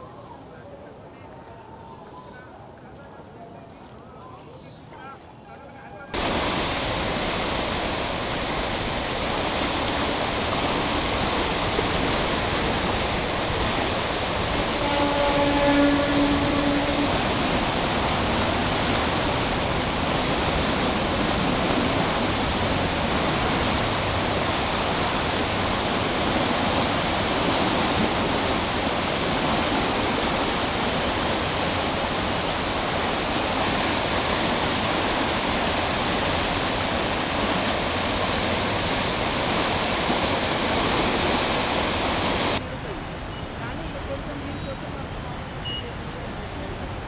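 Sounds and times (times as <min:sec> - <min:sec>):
flooded river rushing: 0:06.1 - 0:47.0.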